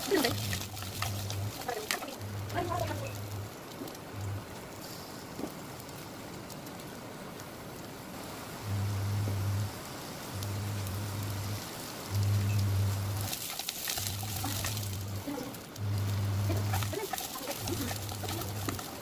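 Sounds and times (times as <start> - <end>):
low hum: 0.0 - 5.1, 8.2 - 19.0
beans sizzling in oil: 0.0 - 19.0.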